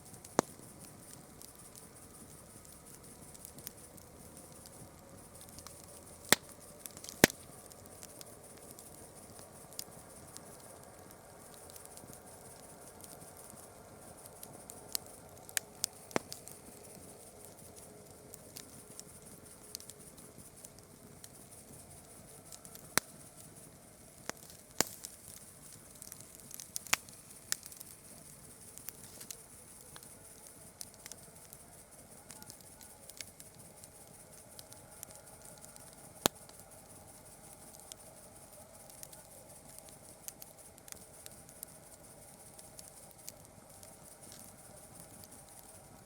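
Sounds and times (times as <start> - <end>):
campfire wood crackling and popping: 0.0 - 46.0
steady high-pitched hiss: 0.0 - 46.0.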